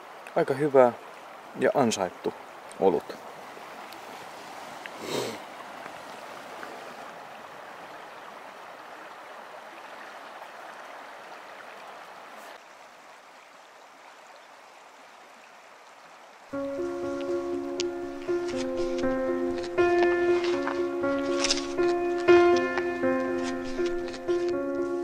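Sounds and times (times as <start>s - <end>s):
stream rushing: 0.0s - 25.0s.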